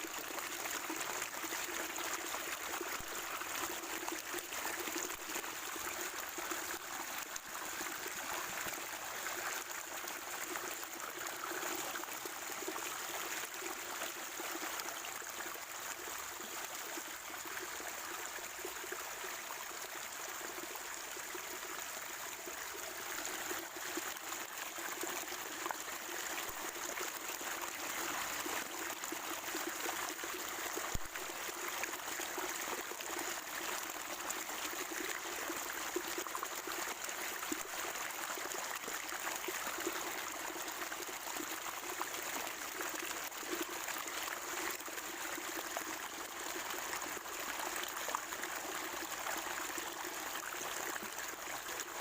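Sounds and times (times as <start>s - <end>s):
water trickling over stones: 0.0s - 52.0s.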